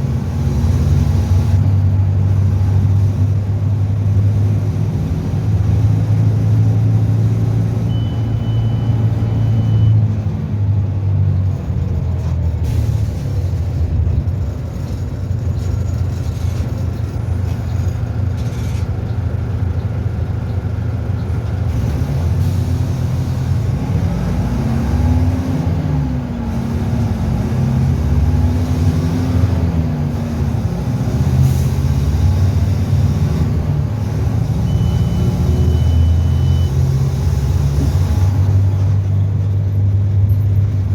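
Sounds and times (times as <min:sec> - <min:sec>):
bus diesel engine revving: 0:00.0 - 0:40.9.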